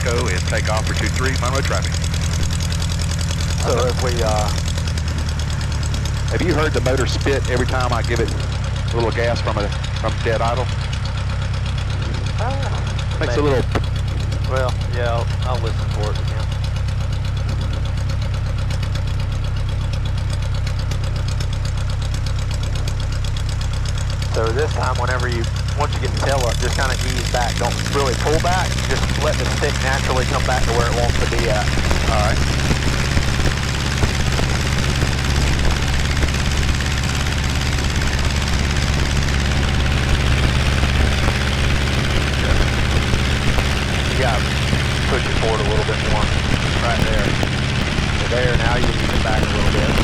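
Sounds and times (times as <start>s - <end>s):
small aircraft engine idling: 0.0s - 50.0s.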